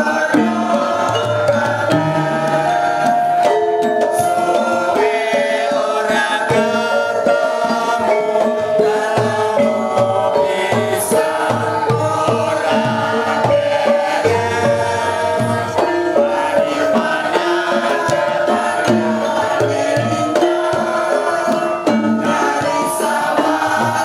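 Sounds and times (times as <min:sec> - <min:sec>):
gamelan ensemble playing: 0:00.0 - 0:24.0
men singing: 0:00.0 - 0:24.0.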